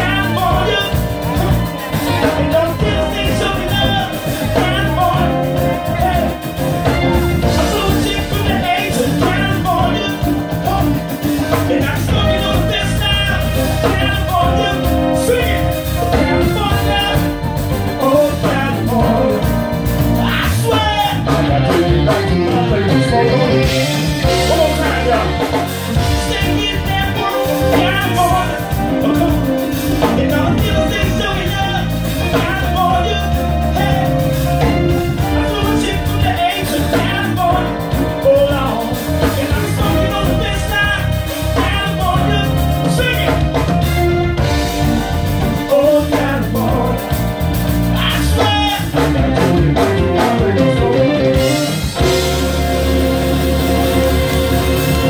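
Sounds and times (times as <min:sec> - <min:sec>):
man singing: 0:00.0 - 0:53.2
live soul band playing: 0:00.0 - 0:55.0.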